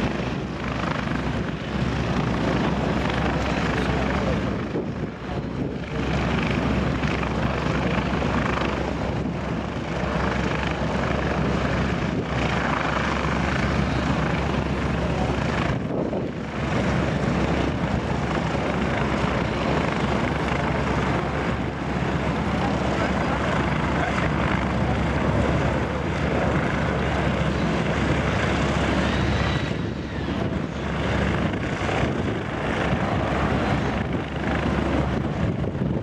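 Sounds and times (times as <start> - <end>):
jet engines roaring overhead: 0.0 - 36.0.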